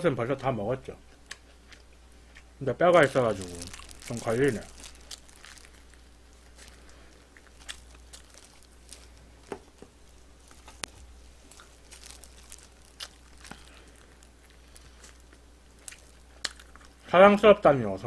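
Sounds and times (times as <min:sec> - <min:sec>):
crunchy chewing of fried chicken: 0:00.5 - 0:17.1.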